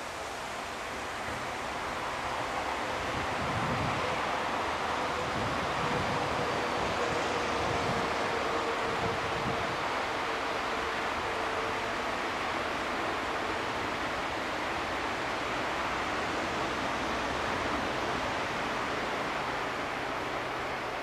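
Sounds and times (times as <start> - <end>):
locomotive rushing noise: 0.0 - 21.0.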